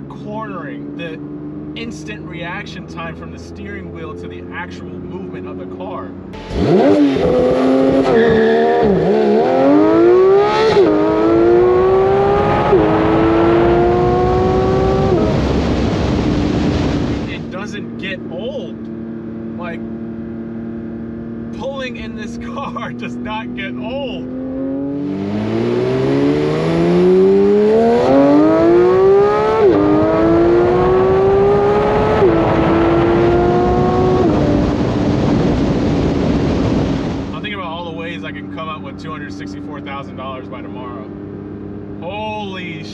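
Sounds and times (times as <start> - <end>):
car engine accelerating hard: 0.0 - 42.9
wind and road noise: 0.0 - 42.9.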